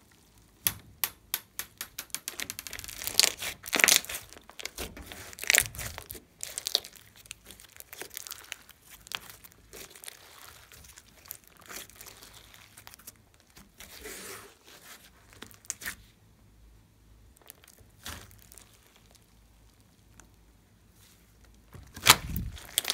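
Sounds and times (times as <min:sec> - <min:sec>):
sticky slime crackles and squishes: 0:01.9 - 0:16.2, 0:17.2 - 0:22.9.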